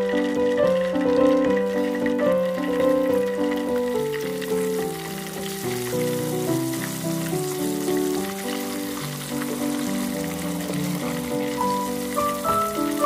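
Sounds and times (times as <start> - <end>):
background music of held notes: 0.0 - 13.0
wings sizzling in hot oil: 0.0 - 13.0.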